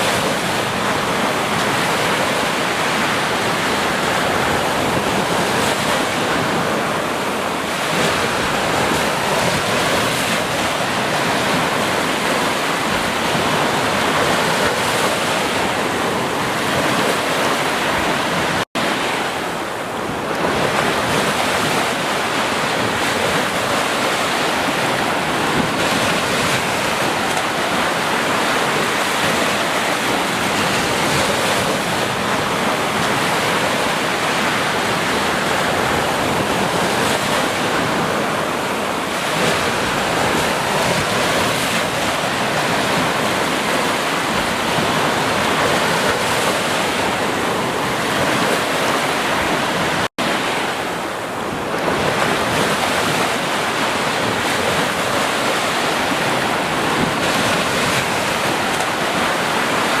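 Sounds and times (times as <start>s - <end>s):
ocean surf washing onto beach: 0.0s - 60.0s.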